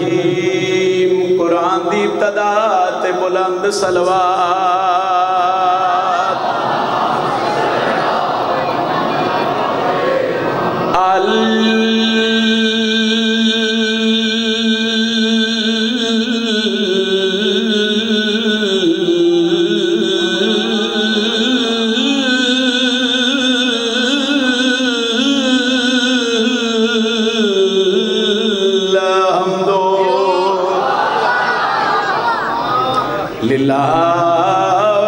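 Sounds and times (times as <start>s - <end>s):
man chanting into microphone: 0.0s - 6.4s, 10.9s - 31.0s, 33.3s - 35.0s.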